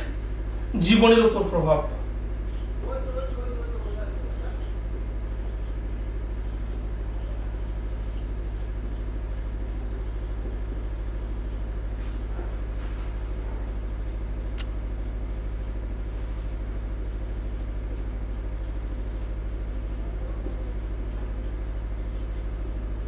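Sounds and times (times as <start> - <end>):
low electrical hum: 0.0 - 23.0
marker writing on whiteboard: 2.4 - 23.0.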